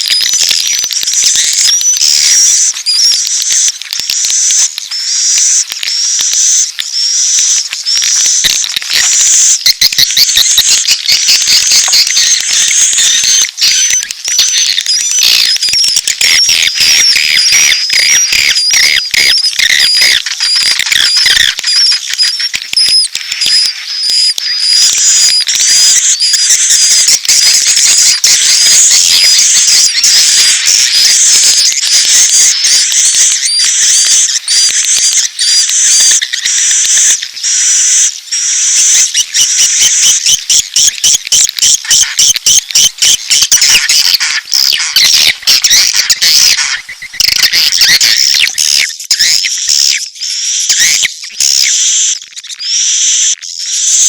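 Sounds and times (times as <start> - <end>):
high repeated bird chirps: 0.0 - 54.0
twittering bird calls: 0.0 - 54.0.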